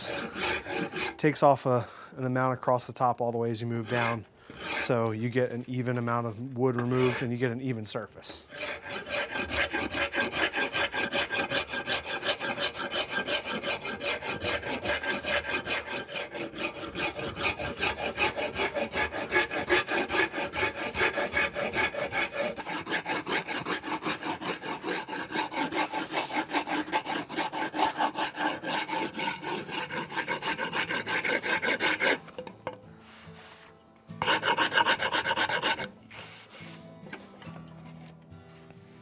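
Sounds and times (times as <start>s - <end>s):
wood rasp scraping a handle: 0.0s - 1.8s, 3.5s - 38.2s.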